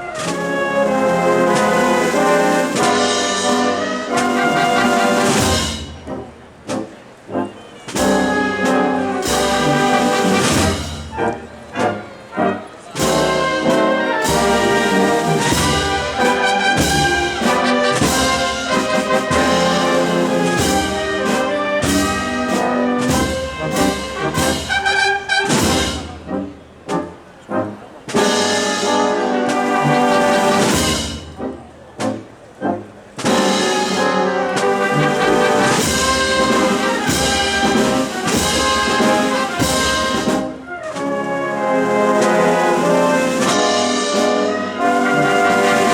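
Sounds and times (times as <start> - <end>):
drum strokes: 0.0 - 7.0, 7.9 - 12.0, 13.0 - 27.1, 28.1 - 32.4, 33.2 - 41.1, 42.0 - 45.9
sustained brass chords: 0.0 - 45.9
wind band playing a march: 0.0 - 45.9.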